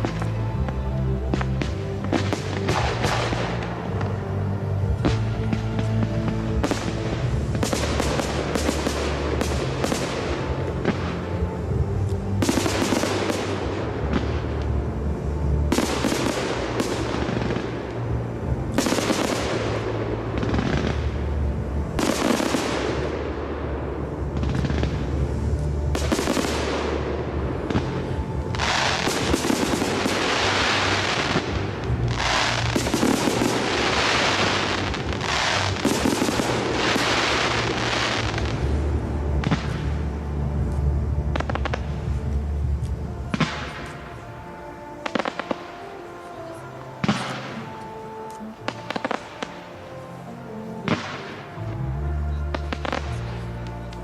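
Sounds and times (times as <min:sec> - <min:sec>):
fireworks bursting and crackling: 0:00.0 - 0:54.0
music playing: 0:00.0 - 0:54.0.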